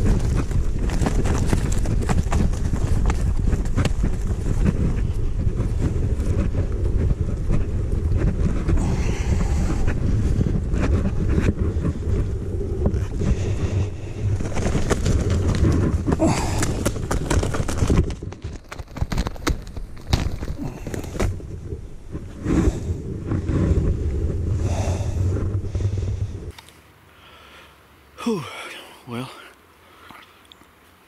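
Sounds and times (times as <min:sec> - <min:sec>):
wind buffeting microphone: 0:00.0 - 0:26.6.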